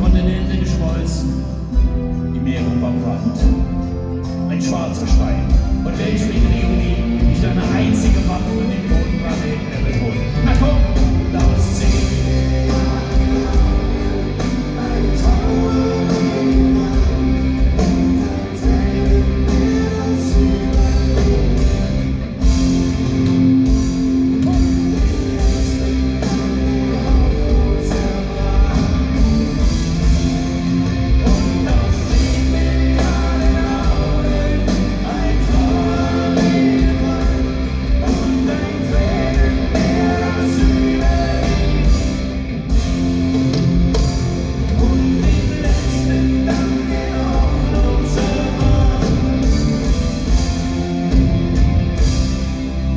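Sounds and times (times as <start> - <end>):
live rock band: 0.0 - 52.9.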